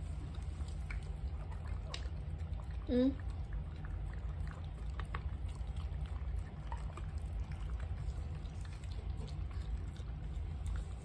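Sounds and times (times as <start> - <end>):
dogs licking and lapping: 0.0 - 11.0
steady low hum: 0.0 - 11.0.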